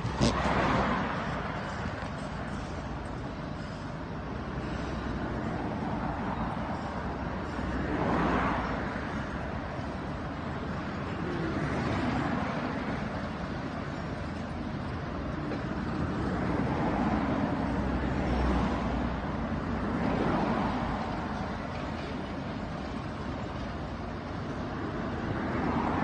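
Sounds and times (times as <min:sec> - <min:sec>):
excavator diesel engine: 0:00.0 - 0:26.0.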